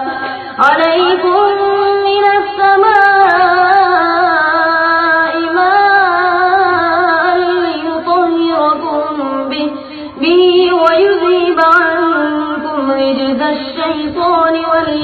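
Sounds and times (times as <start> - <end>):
person chanting recitation: 0.0 - 15.0.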